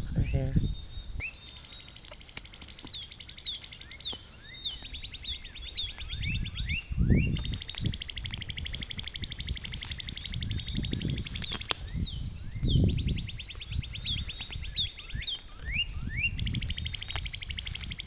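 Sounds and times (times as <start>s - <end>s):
songbirds trilling and chirping: 0.0s - 18.0s.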